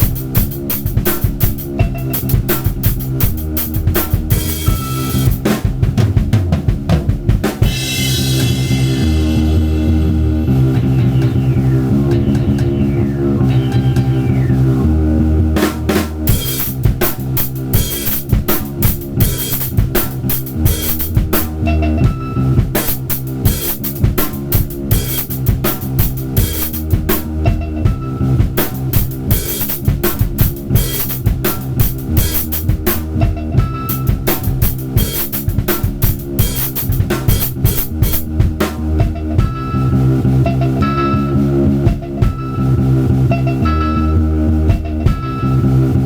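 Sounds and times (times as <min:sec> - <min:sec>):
drum kit rapid hits: 0:00.0 - 0:14.4, 0:15.6 - 0:43.5, 0:44.7 - 0:45.8
music track with bass notes: 0:00.0 - 0:46.0.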